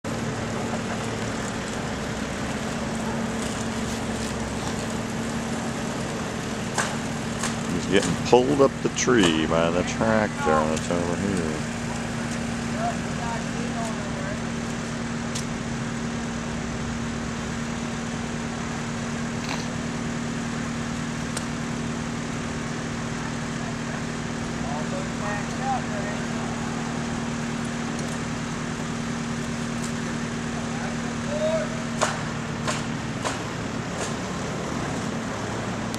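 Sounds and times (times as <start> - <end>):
broad rushing noise: 0.0 - 35.9
tractor engine humming: 0.0 - 35.9.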